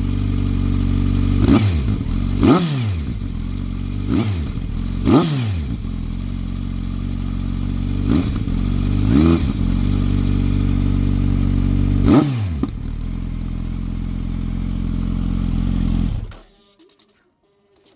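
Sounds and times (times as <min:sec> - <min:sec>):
motorcycle engine idling and revving: 0:00.0 - 0:16.6.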